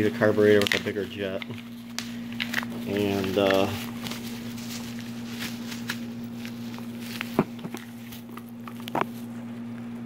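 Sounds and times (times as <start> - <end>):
handling and shuffling noises: 0.0 - 10.0
steady low hum: 0.0 - 10.0.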